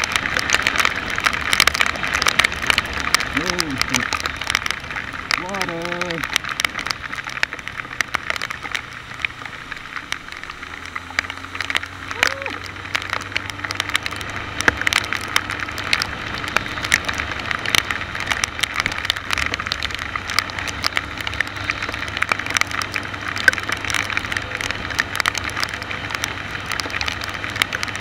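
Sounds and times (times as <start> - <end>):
rain drops striking camera: 0.0 - 28.0
road and wind noise: 0.0 - 28.0.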